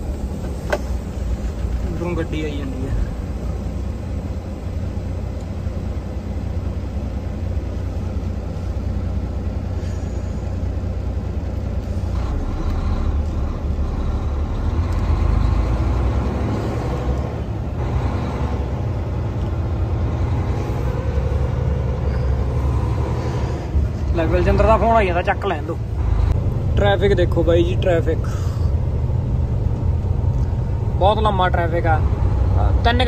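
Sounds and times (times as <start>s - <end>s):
road noise: 0.0s - 33.0s
truck diesel engine rumble: 0.0s - 33.0s.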